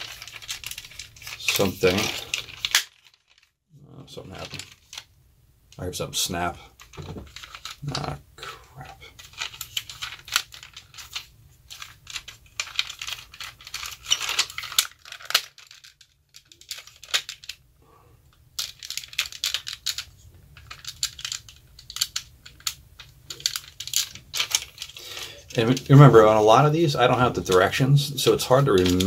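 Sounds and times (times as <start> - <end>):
plastic toy parts clicking and rattling: 0.0 - 5.1, 6.7 - 8.2, 9.1 - 17.6, 18.3 - 29.0.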